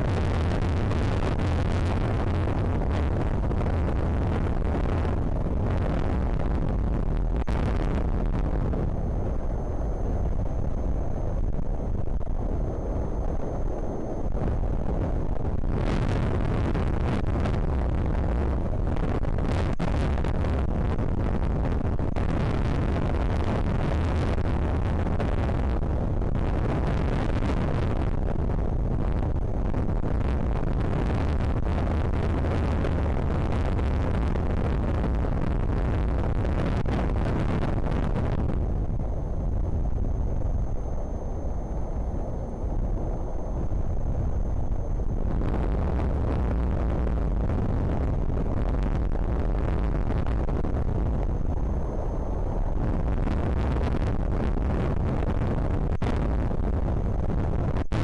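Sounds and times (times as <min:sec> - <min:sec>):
faint high whine: 0:00.0 - 0:58.0
wind buffeting microphone: 0:00.0 - 0:58.0.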